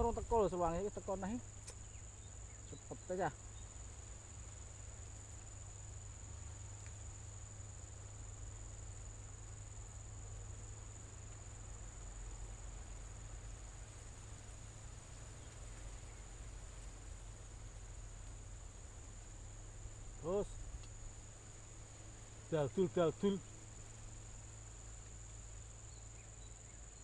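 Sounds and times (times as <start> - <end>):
insects trilling: 0.0 - 27.0
low steady rumble: 0.0 - 27.0.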